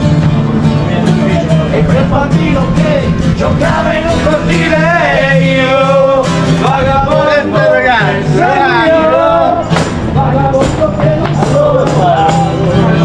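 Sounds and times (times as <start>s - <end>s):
song with singing and beat: 0.0s - 13.0s.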